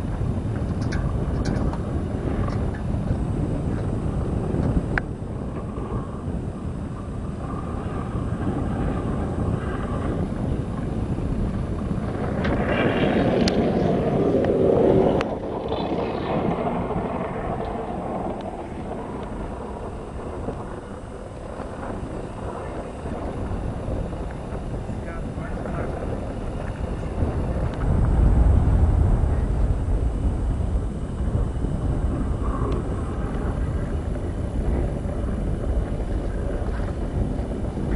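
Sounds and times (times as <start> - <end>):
wind on microphone: 0.0 - 37.9.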